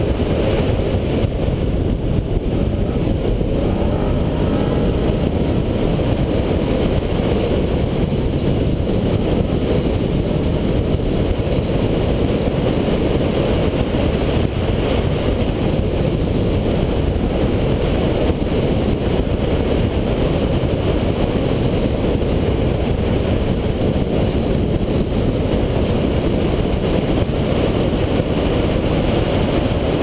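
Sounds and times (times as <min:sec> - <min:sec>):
car wind and road noise: 0:00.0 - 0:30.0.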